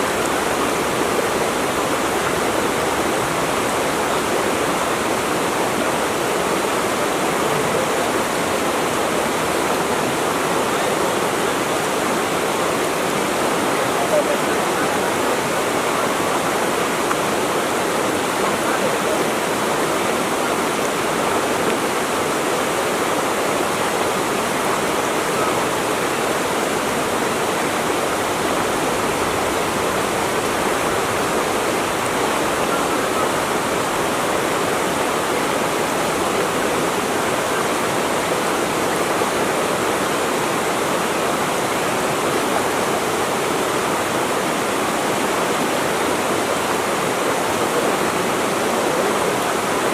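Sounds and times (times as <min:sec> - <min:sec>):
water rushing: 0:00.0 - 0:49.9.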